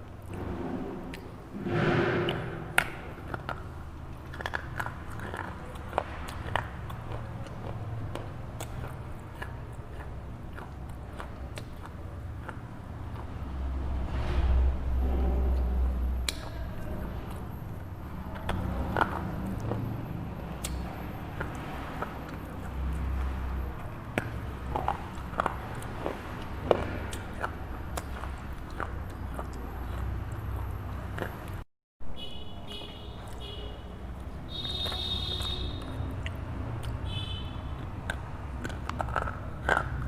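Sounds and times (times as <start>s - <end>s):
biting and chewing crunches: 0.0s - 31.6s, 32.8s - 40.0s.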